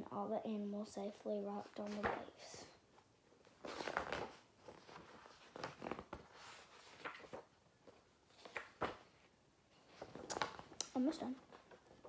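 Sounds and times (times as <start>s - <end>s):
book pages rustling: 1.6s - 2.4s, 3.0s - 12.0s.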